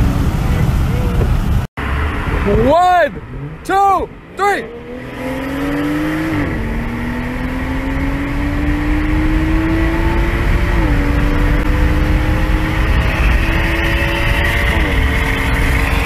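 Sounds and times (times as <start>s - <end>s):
car engine accelerating hard: 0.0s - 16.0s
road and wind noise: 0.0s - 16.0s.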